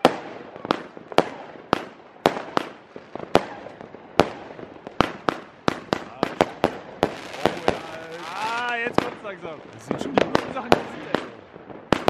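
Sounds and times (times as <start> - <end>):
firework bangs with echo: 0.0 - 12.0.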